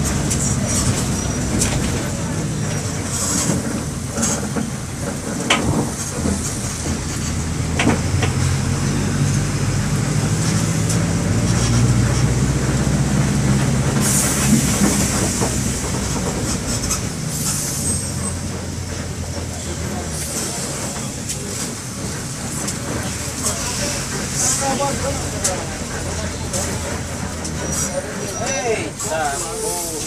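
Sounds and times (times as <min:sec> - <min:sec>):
bus diesel engine drone: 0:00.0 - 0:30.0.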